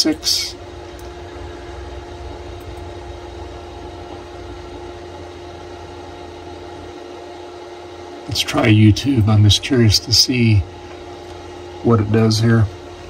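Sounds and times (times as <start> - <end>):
machine hum with low rumble: 0.0 - 13.0.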